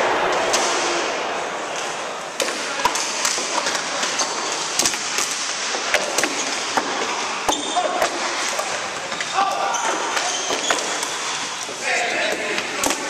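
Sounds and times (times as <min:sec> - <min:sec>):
hockey sticks clacking: 0:00.3 - 0:13.0.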